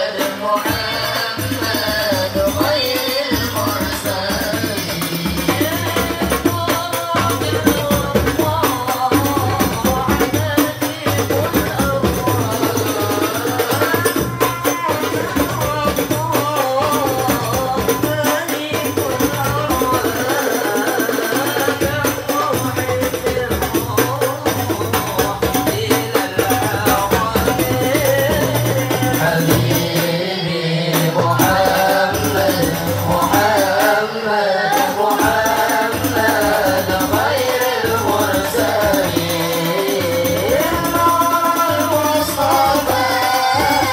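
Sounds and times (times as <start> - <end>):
boys singing devotional song: 0.0 - 43.9
frame drums beating: 0.0 - 43.9.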